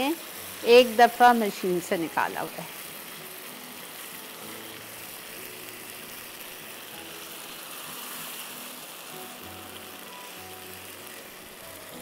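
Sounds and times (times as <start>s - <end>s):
mince sizzling in a wok: 0.0s - 12.0s.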